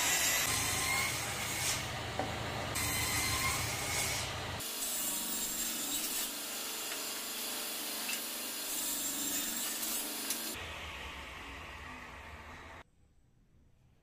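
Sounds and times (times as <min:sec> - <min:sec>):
table saw cutting wood: 0:00.0 - 0:12.8.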